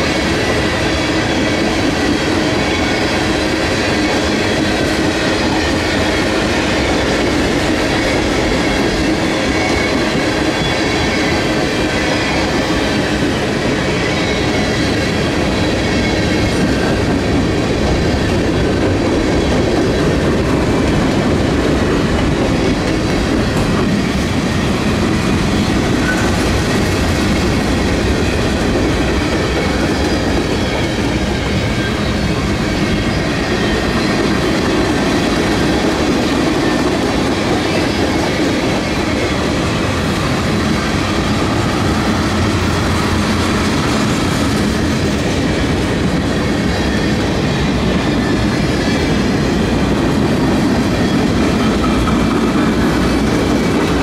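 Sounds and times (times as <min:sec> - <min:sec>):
steel wheels rolling on rail: 0:00.0 - 0:54.0.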